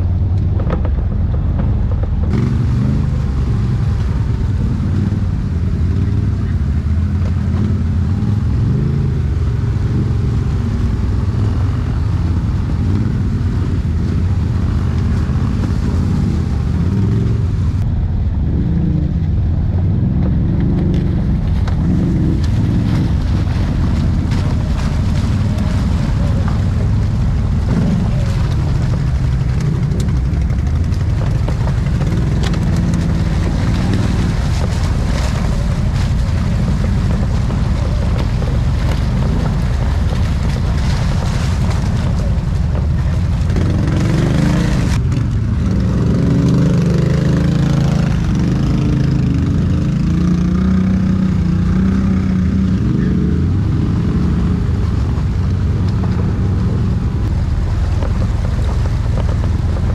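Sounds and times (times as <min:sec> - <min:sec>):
atv engine running: 0:00.0 - 0:59.9
steady rushing noise: 0:00.0 - 0:59.9.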